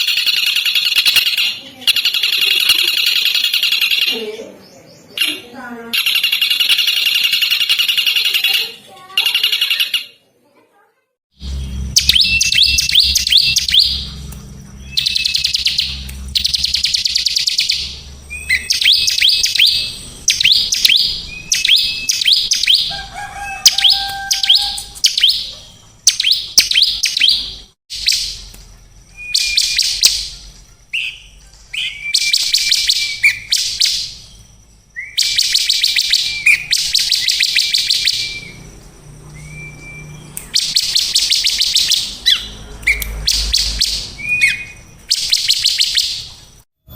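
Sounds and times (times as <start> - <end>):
songbird chirping and trilling: 0.0 - 10.6, 11.4 - 46.9.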